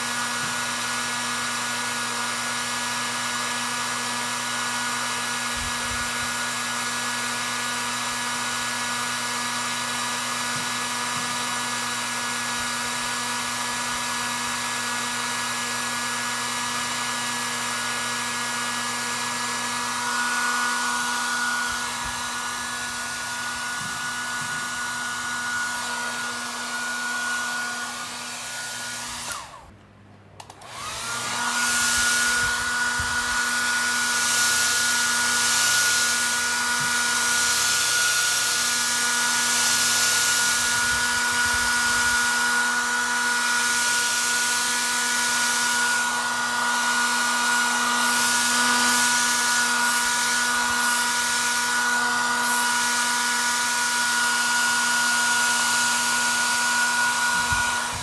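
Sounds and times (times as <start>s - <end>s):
hair dryer blowing: 0.0s - 29.7s, 30.4s - 58.0s.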